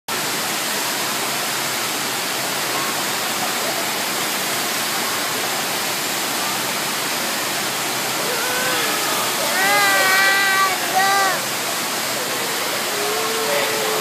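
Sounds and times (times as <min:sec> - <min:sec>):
water rushing: 0:00.1 - 0:14.0.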